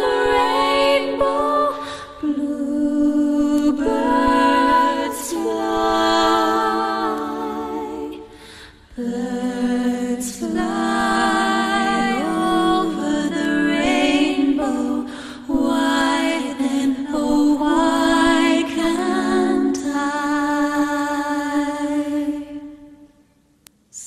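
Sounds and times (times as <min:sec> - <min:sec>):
wordless vocal harmony: 0:00.0 - 0:23.4.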